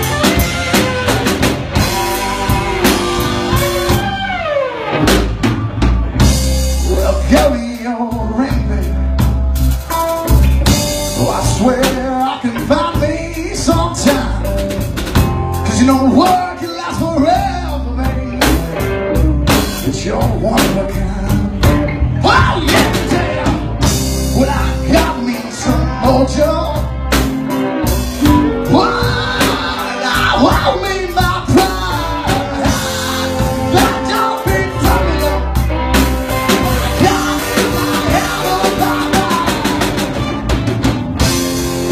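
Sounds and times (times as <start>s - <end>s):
blues-rock band playing: 0.0s - 41.9s
drum kit beating: 0.0s - 41.9s
melodic lead line bending: 0.0s - 41.9s.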